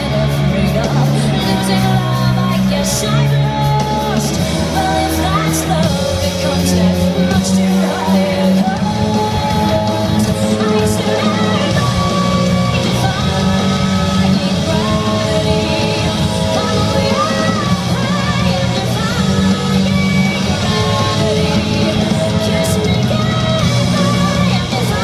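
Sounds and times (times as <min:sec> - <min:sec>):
loud music with singing: 0:00.0 - 0:25.0.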